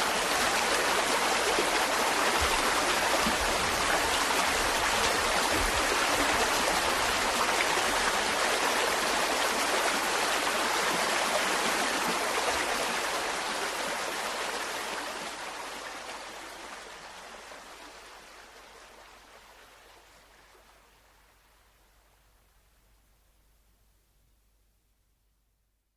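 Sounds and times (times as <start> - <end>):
mountain stream flowing: 0.0 - 22.8.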